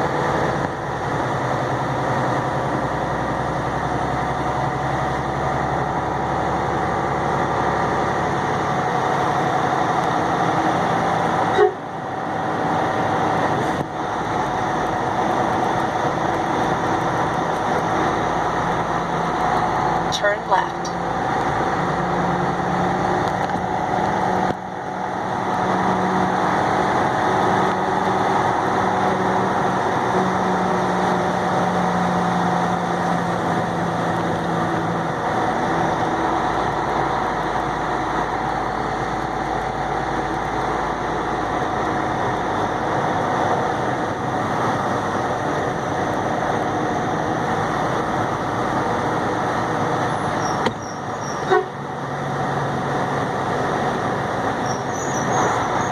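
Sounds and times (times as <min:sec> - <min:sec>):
truck diesel engine droning: 0:00.0 - 0:55.9.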